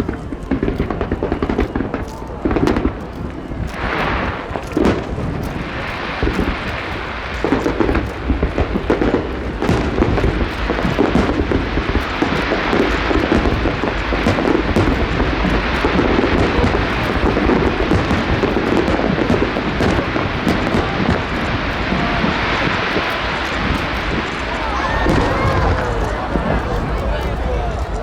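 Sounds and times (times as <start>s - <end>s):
fireworks booming: 0.0s - 28.0s
fireworks crackling: 0.0s - 28.0s.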